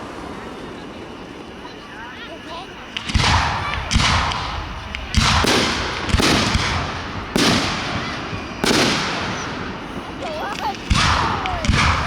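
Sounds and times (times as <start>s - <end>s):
fireworks bursting: 0.3s - 12.0s.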